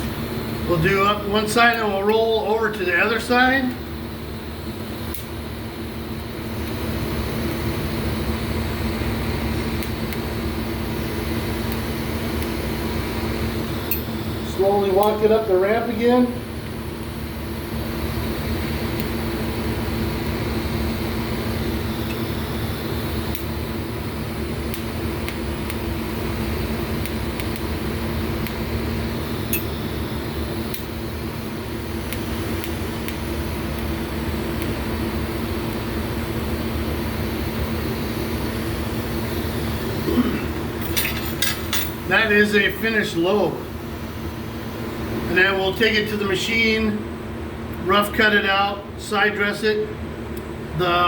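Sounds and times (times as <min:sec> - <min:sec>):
welding arc crackling hiss: 0:00.0 - 0:47.1
low electrical hum: 0:00.0 - 0:51.0.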